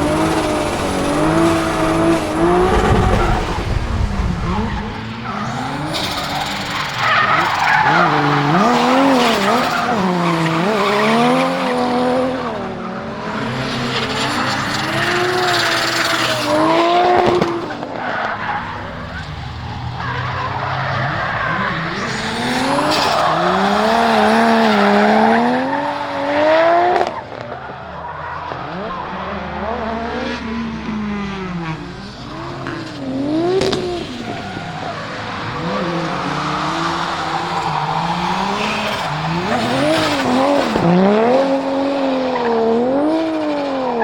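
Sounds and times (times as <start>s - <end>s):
car engine revving: 0.0s - 44.0s
tyre squeal and skidding: 0.0s - 44.0s.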